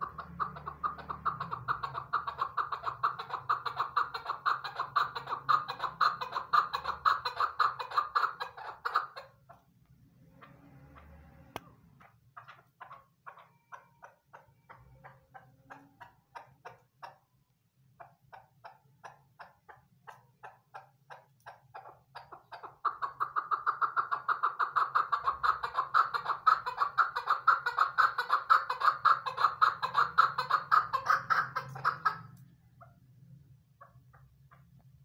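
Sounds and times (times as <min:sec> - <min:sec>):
partridge clucking and chattering: 0:00.0 - 0:09.7, 0:10.3 - 0:17.3, 0:17.9 - 0:32.9.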